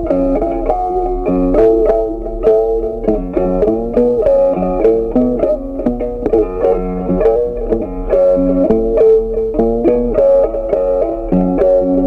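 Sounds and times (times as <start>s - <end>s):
melody of sharply struck notes: 0.0s - 12.0s.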